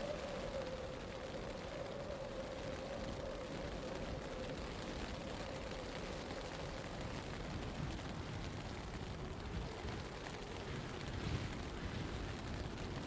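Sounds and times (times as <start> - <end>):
blizzard wind and snow: 0.0 - 13.0.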